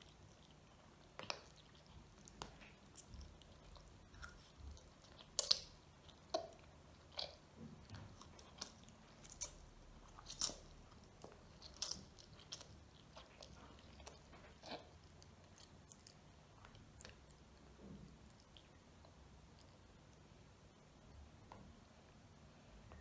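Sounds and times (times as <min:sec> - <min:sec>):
wet chewing and mouth smacks: 0:00.0 - 0:20.3.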